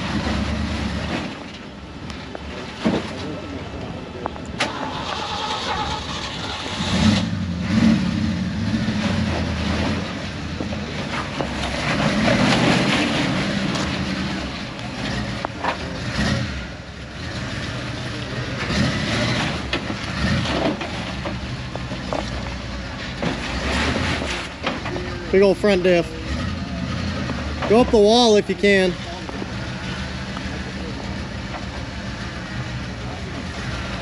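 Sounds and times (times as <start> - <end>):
truck engine revving unevenly: 0.0 - 34.0.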